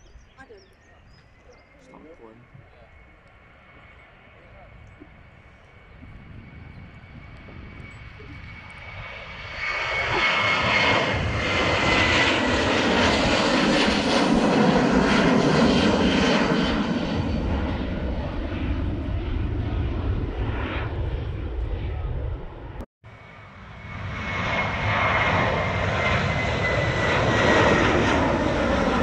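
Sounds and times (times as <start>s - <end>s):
jet airliner taking off: 0.0s - 29.0s.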